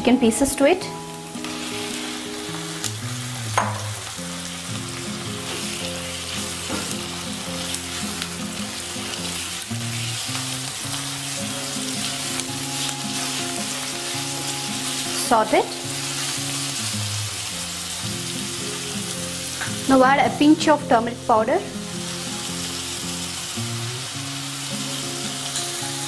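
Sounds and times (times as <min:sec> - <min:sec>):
chicken sizzling in hot oil: 0:00.1 - 0:26.0.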